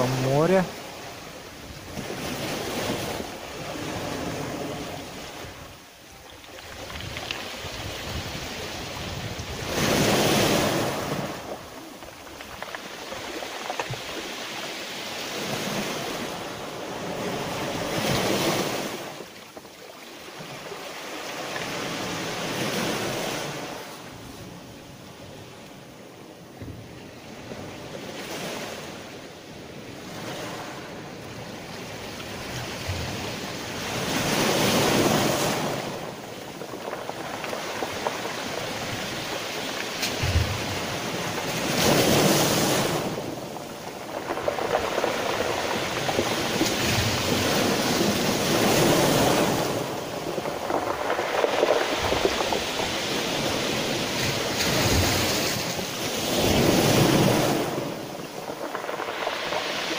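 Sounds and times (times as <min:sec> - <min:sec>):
waves washing over pebbles: 0:00.0 - 0:59.9.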